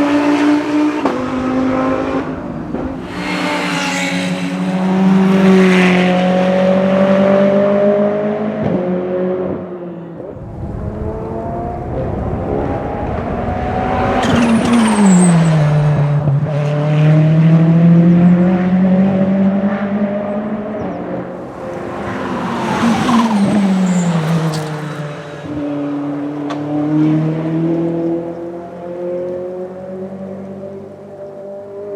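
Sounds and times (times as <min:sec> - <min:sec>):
race car passing by: 0:00.0 - 0:31.9.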